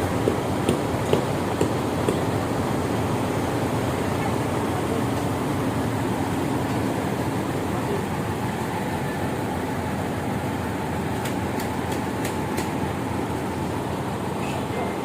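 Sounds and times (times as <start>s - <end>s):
heavy construction machinery rumble: 0.0s - 15.0s.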